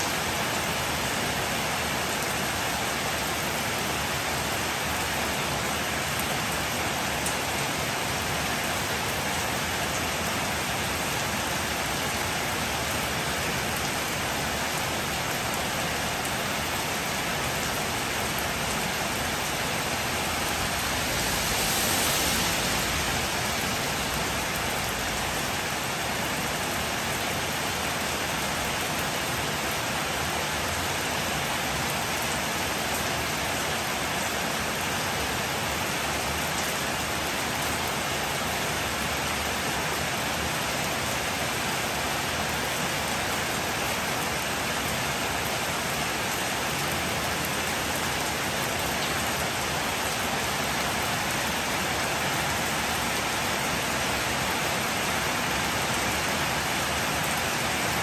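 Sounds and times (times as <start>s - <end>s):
heavy rain on wet street: 0.0s - 58.0s.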